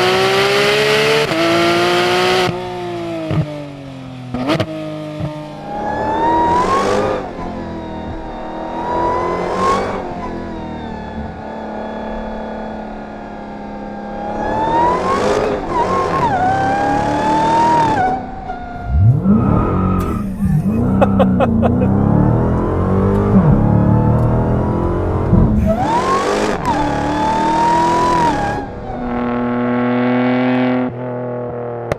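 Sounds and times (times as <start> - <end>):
car engines revving: 0.0 - 31.9.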